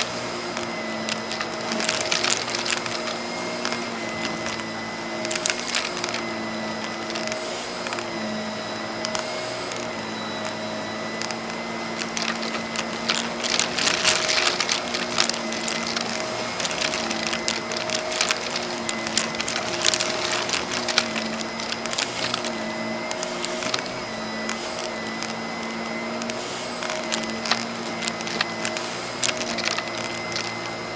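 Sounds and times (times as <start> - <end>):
puzzle pieces rattling and clicking: 0.0 - 8.2, 9.1 - 10.6, 11.2 - 30.9
vacuum cleaner running: 0.0 - 30.9.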